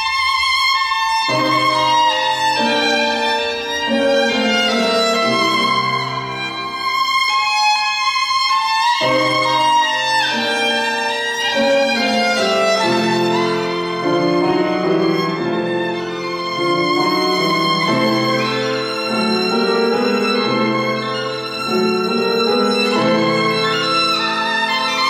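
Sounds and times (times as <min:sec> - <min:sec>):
piano accompaniment: 0:00.0 - 0:25.0
violin playing melody: 0:00.0 - 0:25.0.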